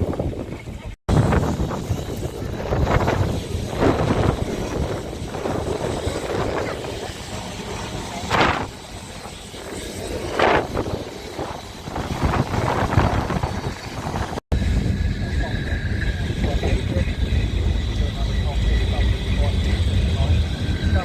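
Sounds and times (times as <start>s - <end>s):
tram running gear rumble: 0.0s - 21.0s
wind buffeting microphone: 0.0s - 21.0s.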